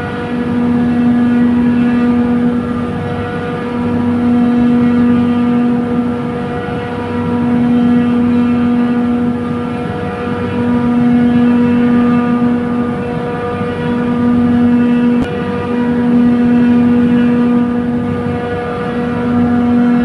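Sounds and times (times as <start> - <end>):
compressor machine hum: 0.0 - 20.0.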